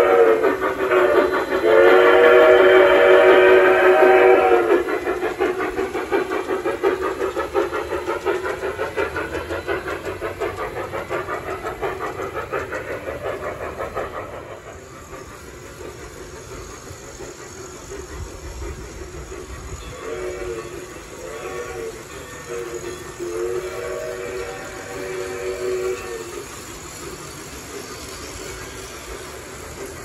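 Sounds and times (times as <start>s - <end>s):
model steam locomotive chuffing: 0.0s - 30.0s
train wheels rolling on track: 0.0s - 30.0s.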